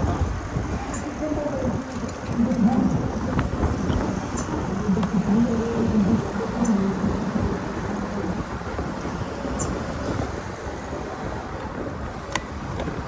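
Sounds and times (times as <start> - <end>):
road noise: 0.0 - 13.0
wind rumble on microphone: 0.0 - 13.0.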